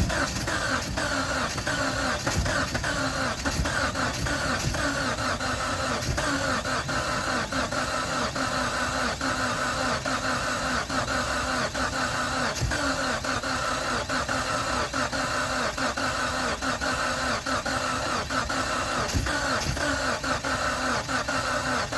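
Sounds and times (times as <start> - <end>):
engine cranking by starter: 0.0 - 21.9.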